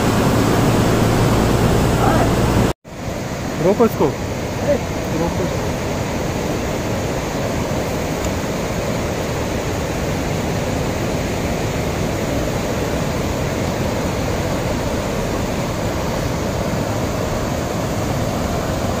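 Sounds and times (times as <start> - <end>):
river floodwater roaring: 0.0 - 19.0.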